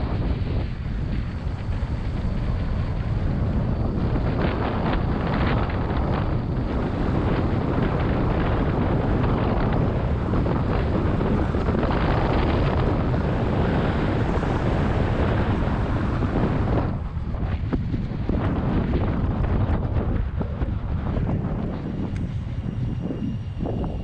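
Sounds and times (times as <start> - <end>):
truck engine and road noise: 0.0 - 24.0
wind buffeting microphone: 0.0 - 24.0.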